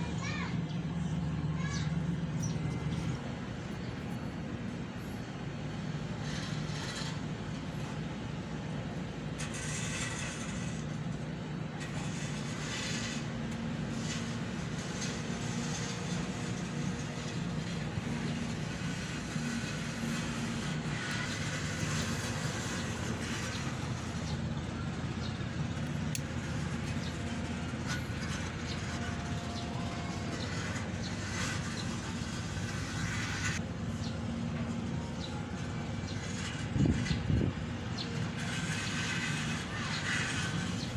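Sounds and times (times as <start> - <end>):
mechanical hum with low rumble: 0.0 - 40.9.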